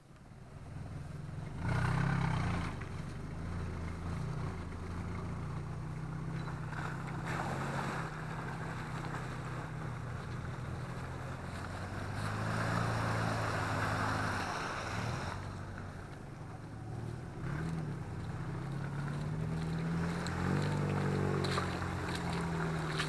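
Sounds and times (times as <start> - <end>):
engine revving and droning: 0.0 - 23.0.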